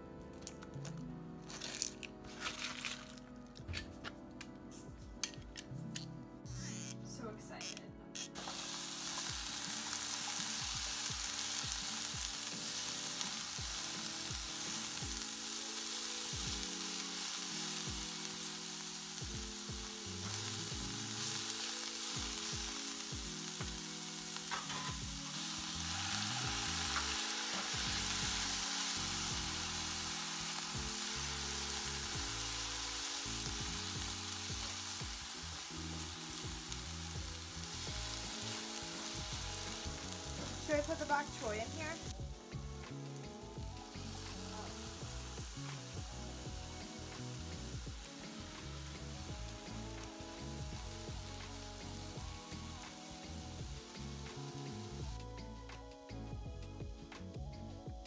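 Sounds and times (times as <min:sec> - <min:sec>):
vegetables sizzling in a pan: 0:01.5 - 0:03.3, 0:06.5 - 0:07.0, 0:07.6 - 0:55.9.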